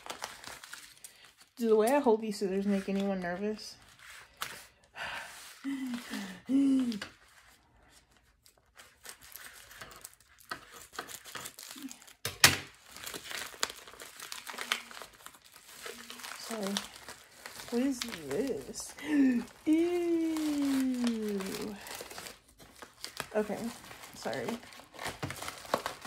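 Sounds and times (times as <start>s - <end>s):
package wrapping crinkling and tearing: 0.0s - 26.0s.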